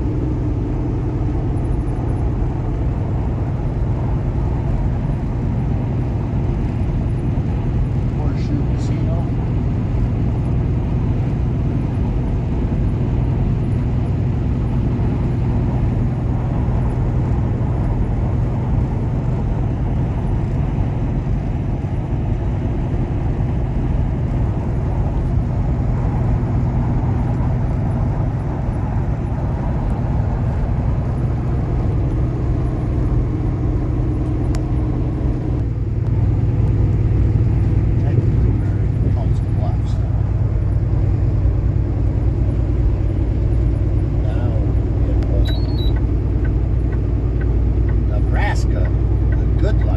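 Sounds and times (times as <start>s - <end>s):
diesel truck engine running: 0.0s - 49.9s
tyre and road noise: 0.0s - 49.9s.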